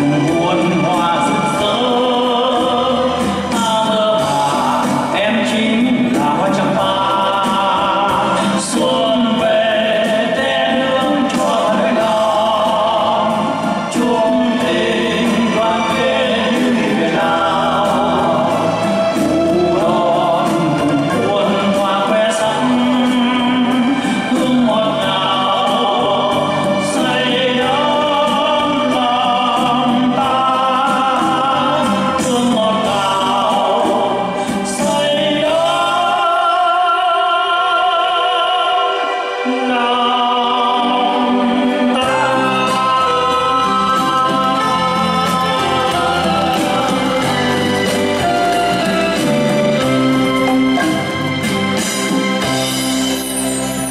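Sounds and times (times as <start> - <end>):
man singing into a microphone: 0.0 - 51.2
instrumental accompaniment: 0.0 - 53.9.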